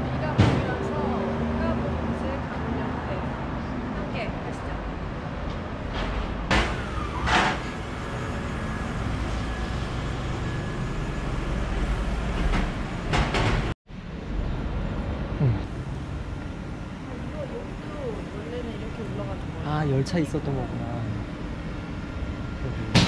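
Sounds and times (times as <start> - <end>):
street rumble: 0.0 - 23.0.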